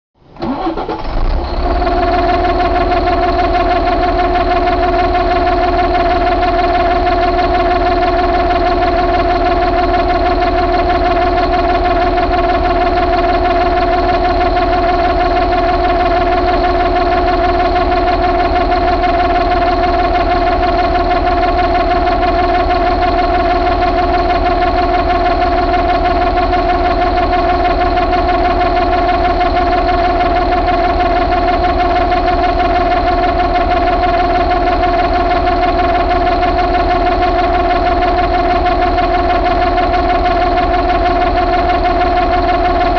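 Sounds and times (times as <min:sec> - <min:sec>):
constant whine: 0:00.3 - 0:42.9
diesel engine idling: 0:00.4 - 0:42.9.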